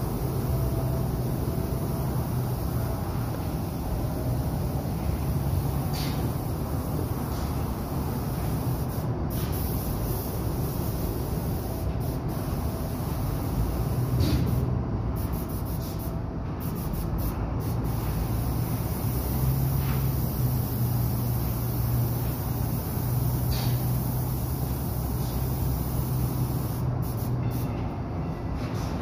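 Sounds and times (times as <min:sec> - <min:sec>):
ventilation fans running: 0:00.0 - 0:29.0.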